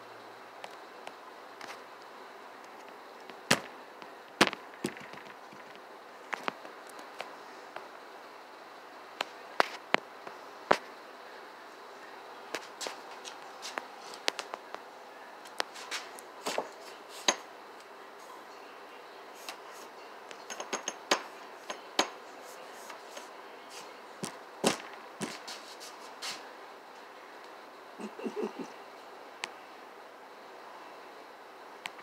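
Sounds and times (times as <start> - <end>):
faint steady hiss: 0.0 - 32.0.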